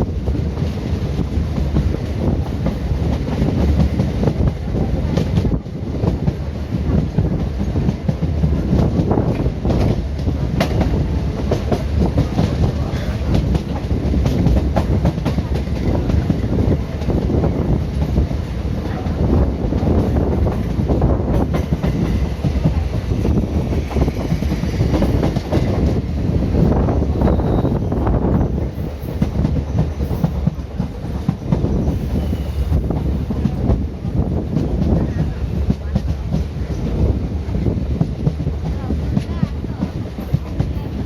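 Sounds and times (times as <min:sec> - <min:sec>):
train coach rumble: 0:00.0 - 0:41.0.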